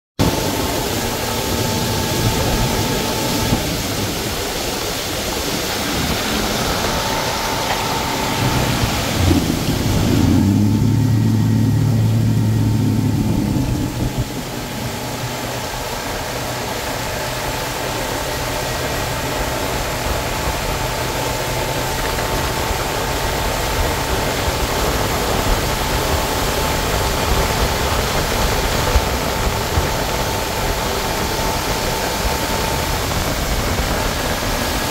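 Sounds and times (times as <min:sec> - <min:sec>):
motorboat engine whining: 0:00.2 - 0:34.9
water rushing and splashing: 0:00.2 - 0:34.9.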